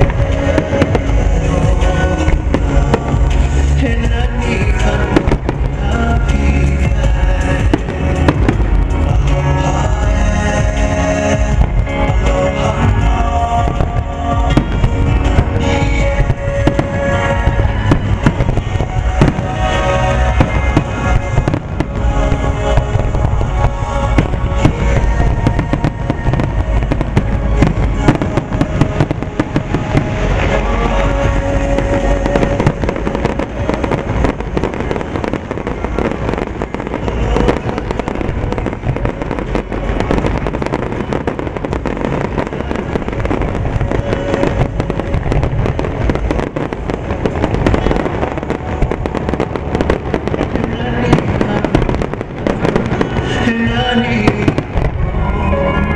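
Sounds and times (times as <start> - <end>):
music playing: 0.0 - 55.9.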